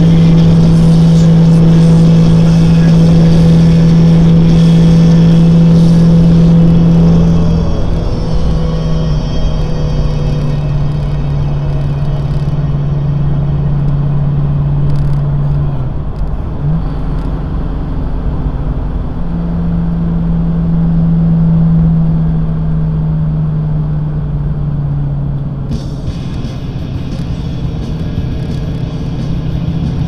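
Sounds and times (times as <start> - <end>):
car engine droning: 0.0 - 30.0
road rumble: 0.0 - 30.0.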